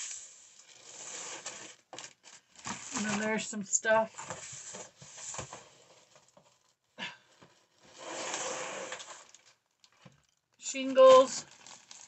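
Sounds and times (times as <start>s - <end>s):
wooden pieces and paper rustling: 0.0s - 6.8s, 8.9s - 12.0s.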